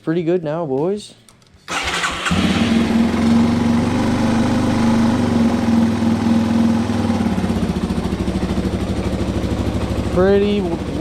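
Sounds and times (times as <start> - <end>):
motorcycle engine idling: 1.7 - 11.0.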